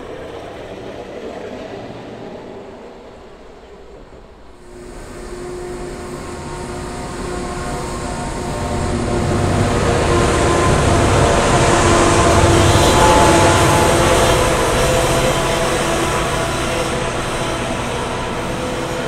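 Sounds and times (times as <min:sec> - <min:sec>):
locomotive engines rumbling: 0:00.0 - 0:19.0
multi-tone engine hum: 0:00.0 - 0:19.0.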